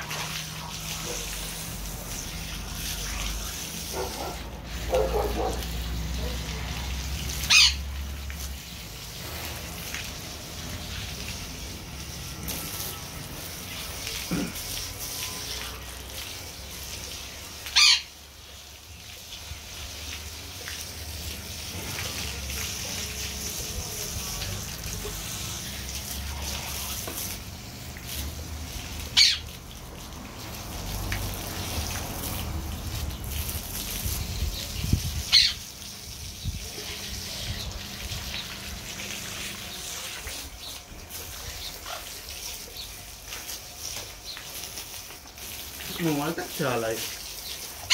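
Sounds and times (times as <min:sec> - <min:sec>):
water splashing from hose: 0:00.0 - 0:47.9.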